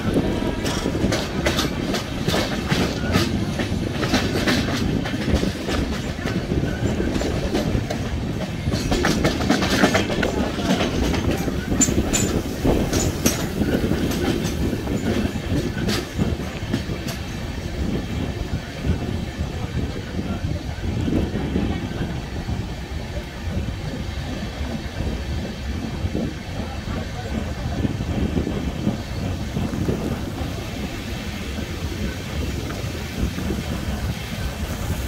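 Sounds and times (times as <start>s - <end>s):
train wheels rumbling on rail: 0.0s - 35.0s
wheels clicking over rail joints: 0.0s - 35.0s.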